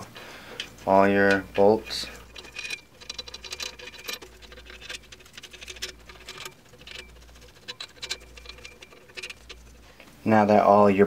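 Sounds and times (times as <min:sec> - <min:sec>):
metal bolts clicking and rattling: 0:00.6 - 0:10.0.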